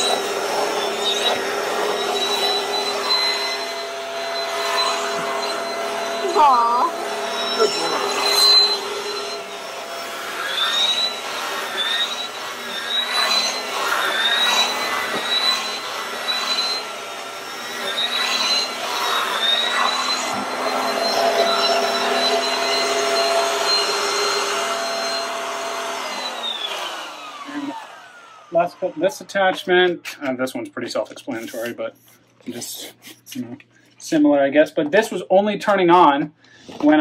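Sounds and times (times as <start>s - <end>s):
vacuum cleaner motor whine: 0.0s - 29.6s.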